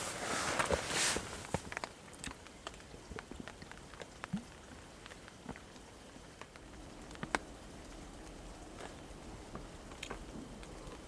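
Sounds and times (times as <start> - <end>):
raindrops ticking: 1.5 - 11.0.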